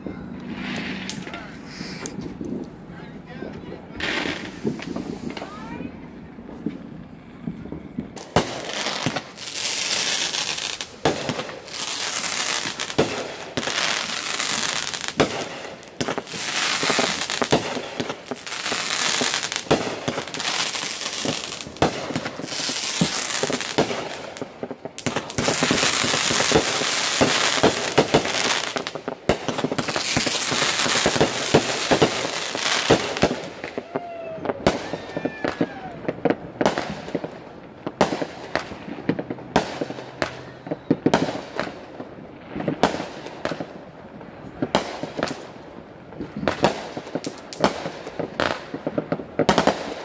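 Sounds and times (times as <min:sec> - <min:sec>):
fireworks popping and crackling: 0:00.0 - 0:50.0.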